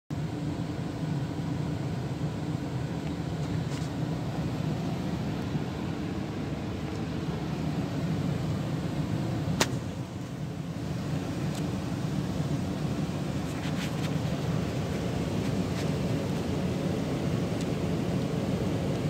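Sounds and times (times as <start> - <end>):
gas furnace humming: 0.1 - 19.0.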